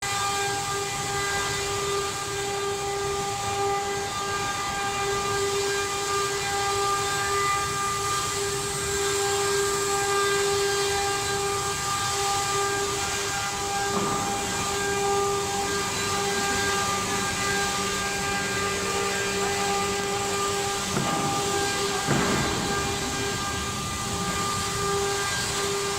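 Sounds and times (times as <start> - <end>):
wood router spindle whining: 0.0 - 25.9.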